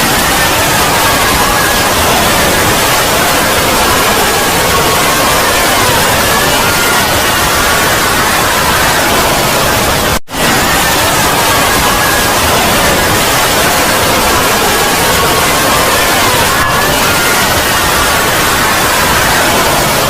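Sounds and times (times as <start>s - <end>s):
harsh static noise: 0.0s - 20.0s.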